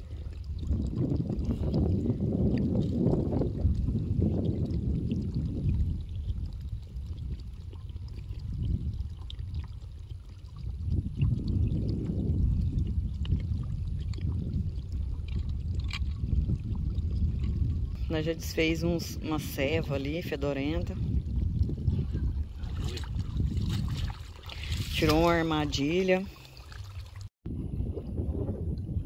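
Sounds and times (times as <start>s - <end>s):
water gurgling from plastic drum: 0.0s - 29.0s.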